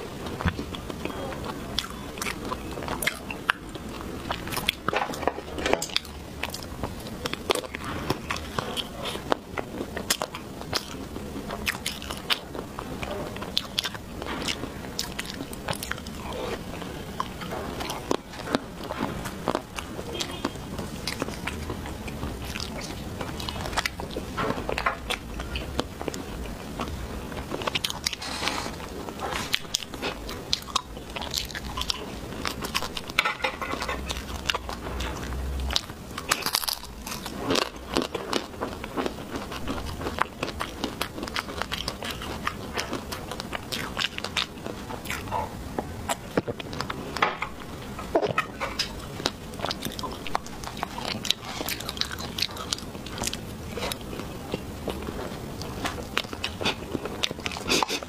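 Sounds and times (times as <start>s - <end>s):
person biting and chewing cake: 0.0s - 58.0s.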